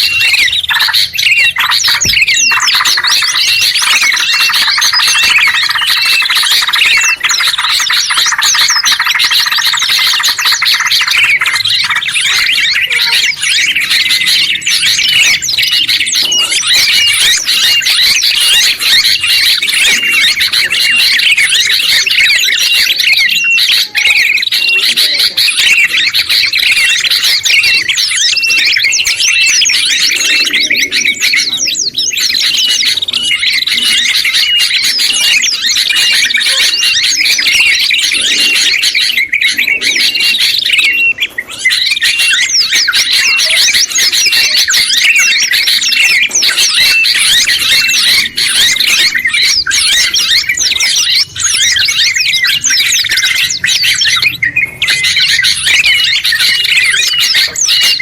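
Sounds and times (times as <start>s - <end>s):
songbirds chattering and twittering: 0.0s - 58.0s.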